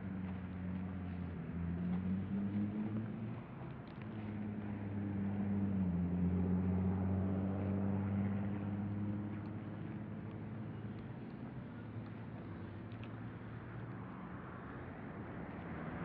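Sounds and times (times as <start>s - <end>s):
vehicle engine hum passing: 0.0s - 16.0s.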